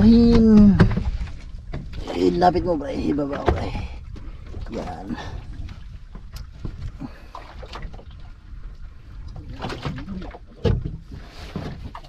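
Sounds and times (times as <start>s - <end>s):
water splashing against boat: 0.0s - 12.0s.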